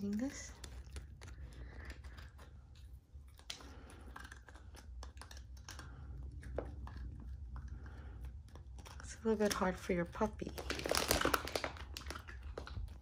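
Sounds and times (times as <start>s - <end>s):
puppy crunching a dog biscuit: 0.0s - 13.0s.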